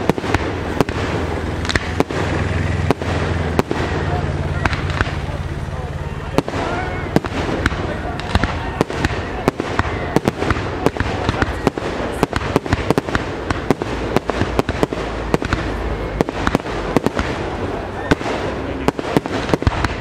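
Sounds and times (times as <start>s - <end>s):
fireworks shells bursting: 0.0s - 20.0s.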